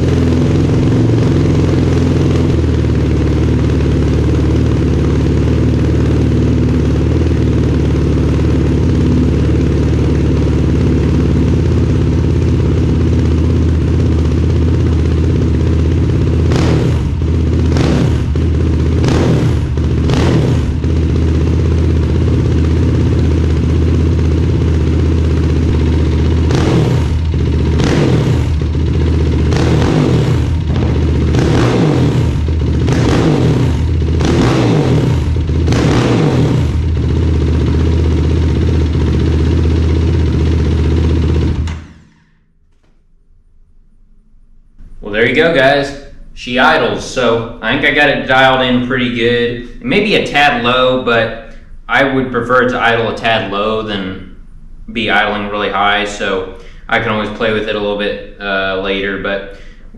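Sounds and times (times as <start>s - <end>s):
engine idling: 0.0s - 42.9s, 44.8s - 59.9s
engine throttle blips: 0.0s - 59.9s.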